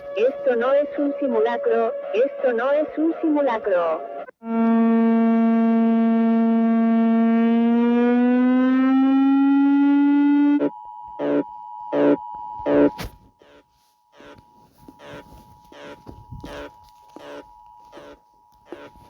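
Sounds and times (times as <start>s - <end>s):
electronic siren tone: 0.0s - 19.0s.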